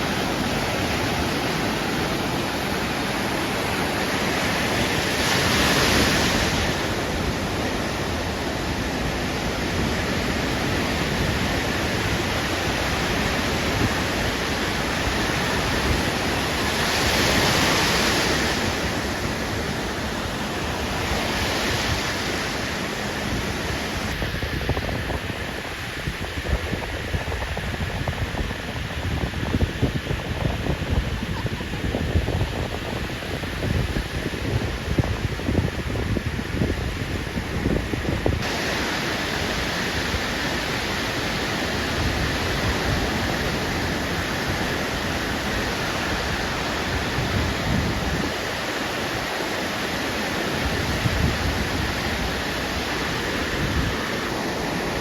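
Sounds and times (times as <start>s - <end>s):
ocean surf breaking: 0.0s - 55.0s
wind buffeting microphone: 0.0s - 55.0s.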